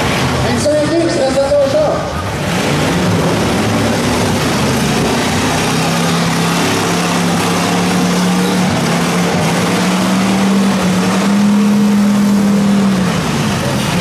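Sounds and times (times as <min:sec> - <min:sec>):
car engines revving: 0:00.0 - 0:14.0
tyre and mechanical noise: 0:00.0 - 0:14.0.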